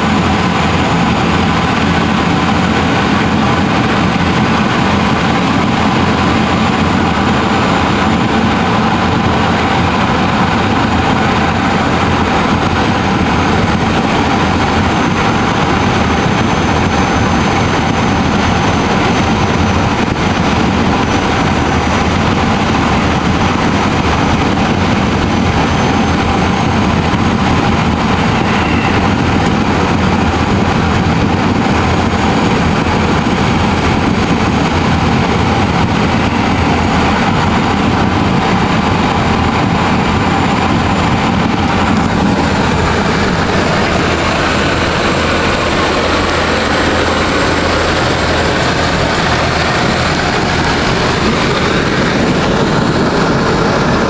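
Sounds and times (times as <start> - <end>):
turboprop cabin drone: 0.0 - 54.0.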